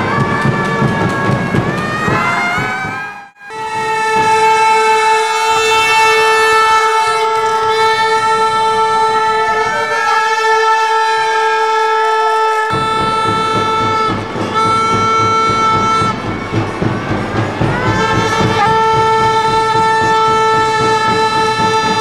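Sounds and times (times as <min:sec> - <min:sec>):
horn long steady note: 0:00.0 - 0:22.0.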